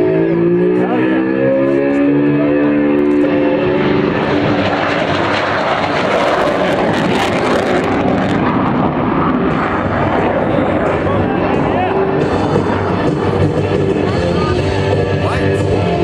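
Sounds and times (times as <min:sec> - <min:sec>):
fighter jet roar passing overhead: 0:00.0 - 0:16.0.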